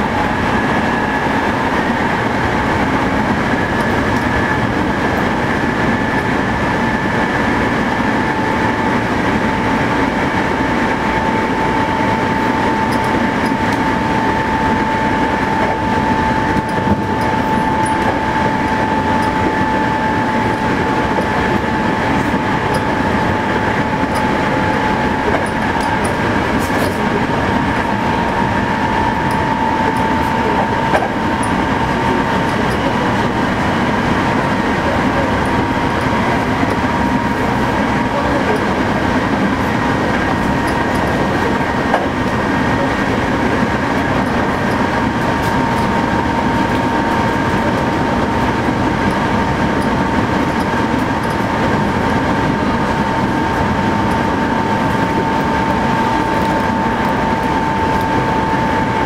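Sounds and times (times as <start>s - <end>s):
traction motor whine: 0.0s - 59.0s
train wheels rumbling on rail: 0.0s - 59.0s.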